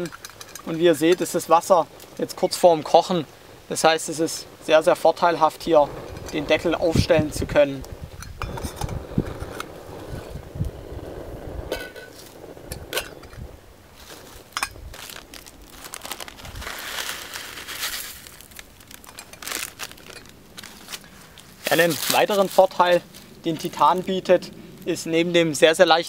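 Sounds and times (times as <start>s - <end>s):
soft hissing rush: 0.0s - 26.0s.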